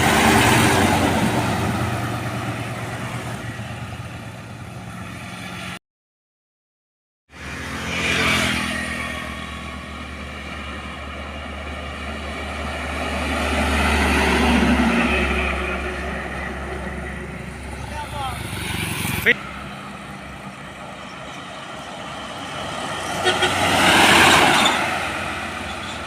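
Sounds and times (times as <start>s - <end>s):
heavy trucks passing: 0.0s - 5.8s, 7.3s - 26.0s.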